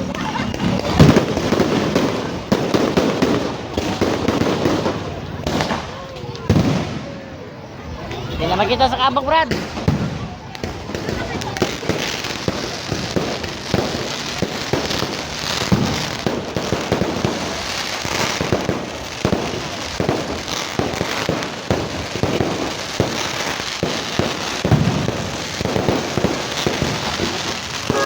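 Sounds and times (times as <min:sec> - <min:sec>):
fireworks bangs and crackles: 0:00.0 - 0:28.0
heavy firework booms: 0:00.5 - 0:07.5, 0:09.5 - 0:28.0.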